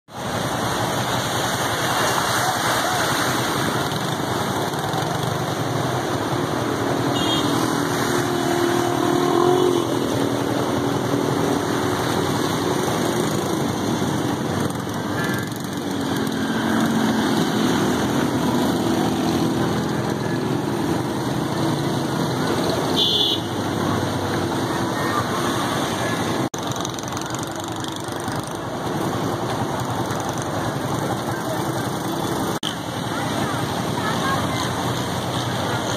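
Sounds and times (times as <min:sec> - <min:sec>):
floodwater rushing: 0:00.1 - 0:35.9
vehicle engines: 0:00.1 - 0:35.9.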